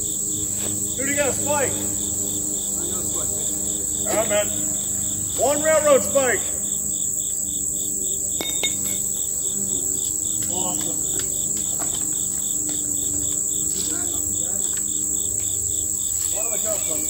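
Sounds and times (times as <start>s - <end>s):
insects buzzing: 0.0s - 17.0s
pulsing insect chirping: 0.0s - 17.0s.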